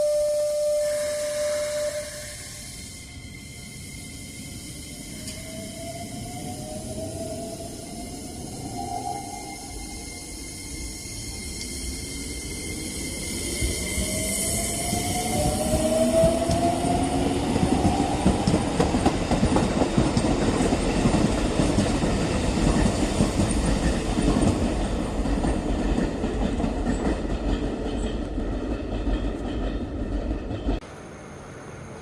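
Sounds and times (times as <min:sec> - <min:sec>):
train rushing past: 0:00.0 - 0:32.0.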